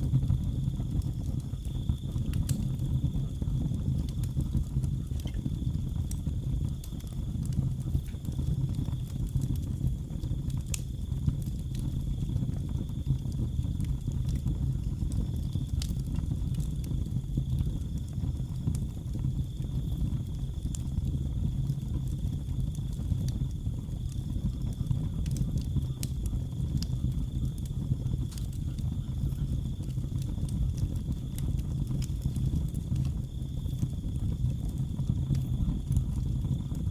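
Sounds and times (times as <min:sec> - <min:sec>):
crickets trilling: 0:00.0 - 0:09.4, 0:10.0 - 0:36.9
sharp pops of fire: 0:00.0 - 0:36.9
wood fire crackling: 0:00.0 - 0:36.9.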